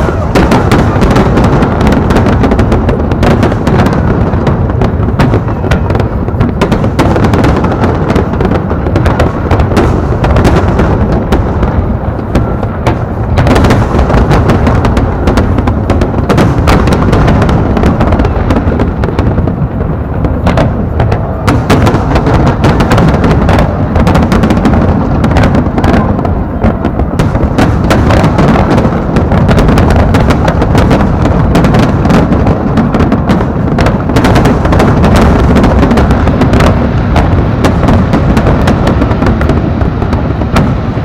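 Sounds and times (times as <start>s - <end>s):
firework booms and pops: 0.0s - 41.0s.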